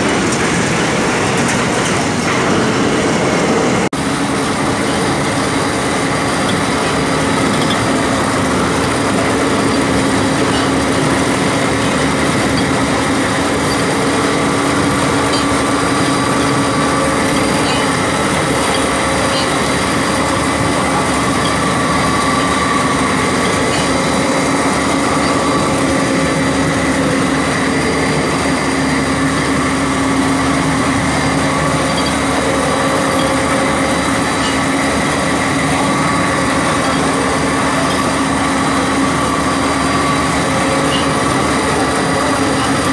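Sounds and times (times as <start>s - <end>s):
oil expeller machinery drone: 0.0s - 42.9s.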